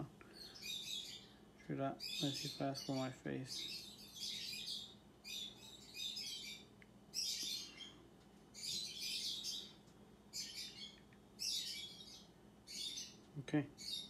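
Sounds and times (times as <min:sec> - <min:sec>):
bird chirping: 0:00.2 - 0:14.0.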